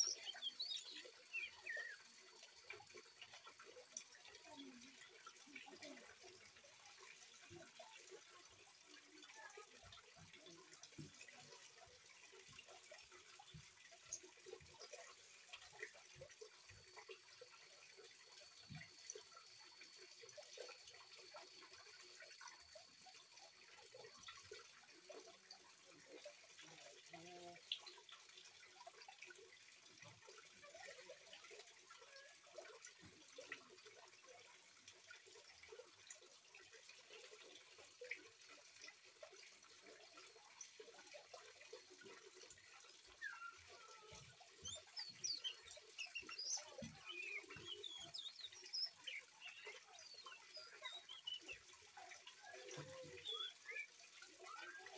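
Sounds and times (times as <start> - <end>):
trickle of running water: 0.0 - 54.9.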